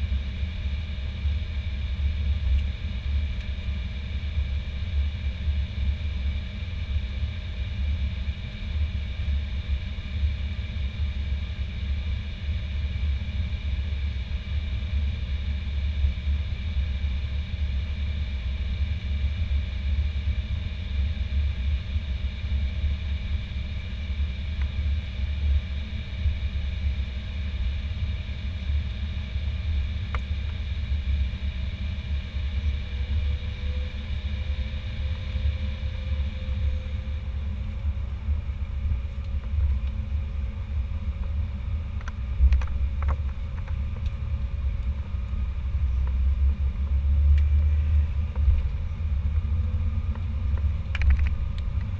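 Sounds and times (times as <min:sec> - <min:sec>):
jet engine low rumble: 0:00.0 - 0:51.9
jet engine whine: 0:00.0 - 0:51.9.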